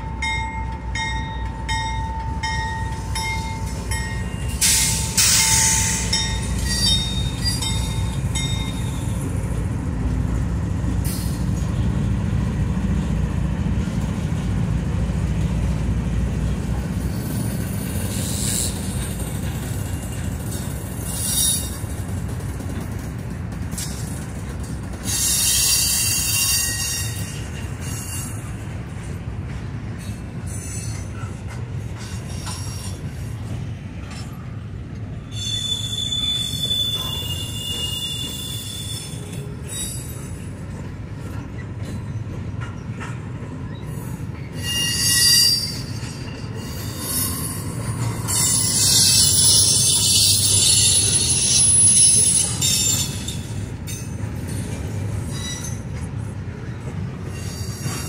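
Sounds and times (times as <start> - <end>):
train wheels squealing: 0.0 - 9.6, 10.9 - 11.9, 16.9 - 22.9, 23.7 - 58.0
freight train rumbling: 0.0 - 58.0.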